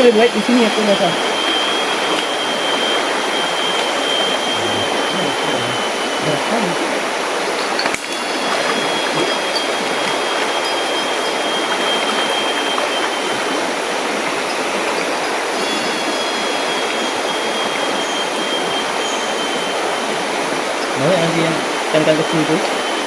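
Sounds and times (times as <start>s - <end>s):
river water rushing over rocks: 0.0s - 23.0s
thin high tone: 0.4s - 20.2s.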